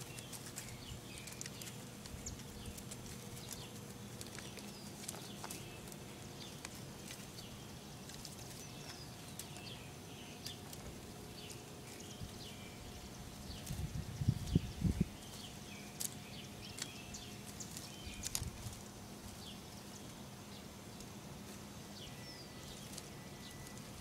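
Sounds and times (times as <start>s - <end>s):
rustles in dry twigs: 0.0s - 24.0s
small birds chirping: 0.0s - 24.0s
steady low hum: 0.0s - 24.0s.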